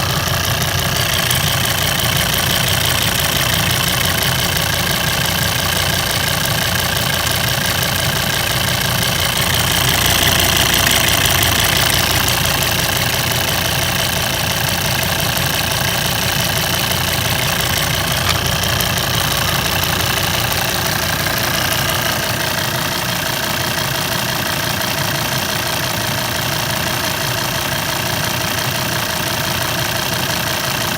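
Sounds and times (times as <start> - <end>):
rapid ticking: 0.0 - 28.9
car engine idling: 0.0 - 30.9.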